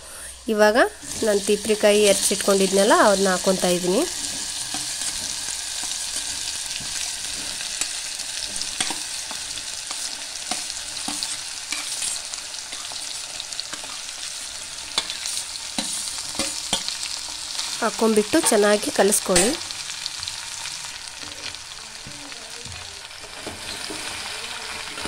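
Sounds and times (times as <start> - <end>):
vegetables sizzling in hot oil: 0.1 - 25.0.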